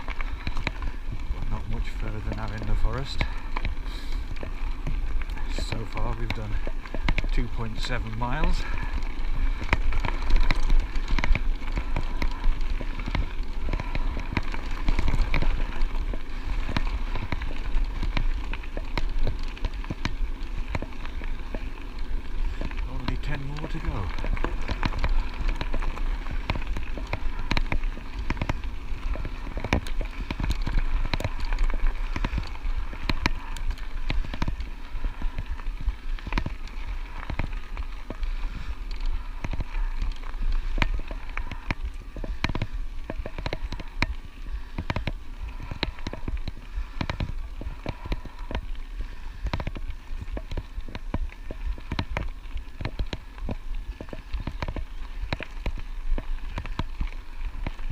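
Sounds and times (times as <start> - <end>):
bike tyres rolling on gravel: 0.0 - 57.9.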